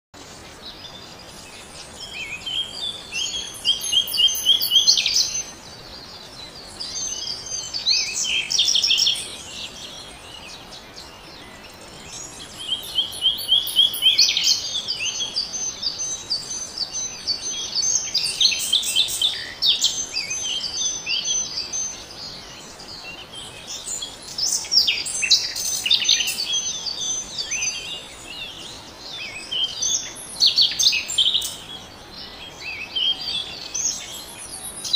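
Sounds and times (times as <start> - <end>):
birds singing and trilling: 0.2 - 34.9.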